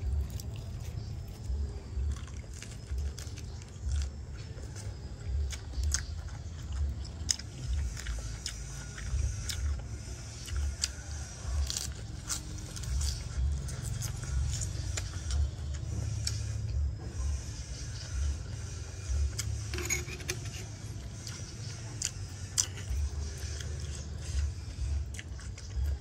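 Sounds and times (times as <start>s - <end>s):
close chewing and biting: 0.0s - 26.0s.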